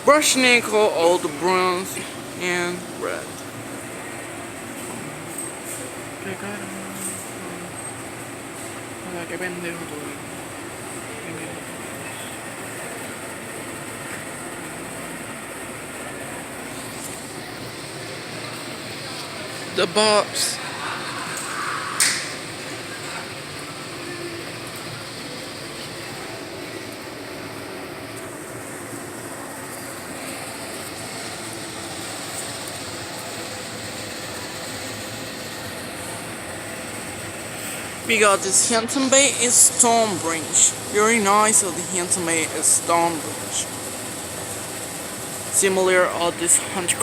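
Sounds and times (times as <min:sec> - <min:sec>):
store interior rushing noise: 0:00.0 - 0:47.0.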